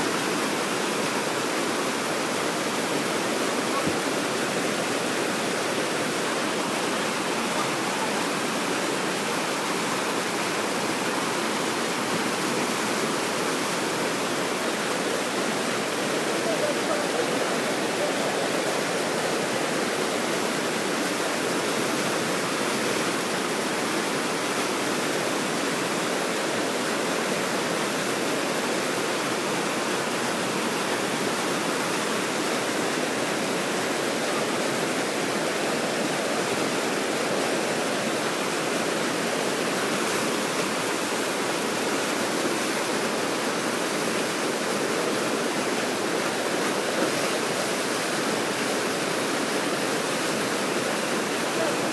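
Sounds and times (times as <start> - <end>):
water rushing over weir: 0.0 - 51.9.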